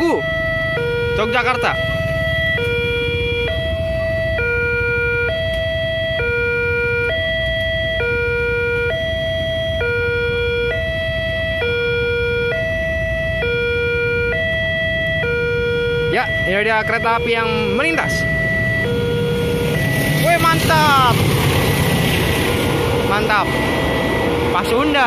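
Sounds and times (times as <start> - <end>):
level crossing two-tone alarm: 0.0 - 21.2, 22.7 - 25.0.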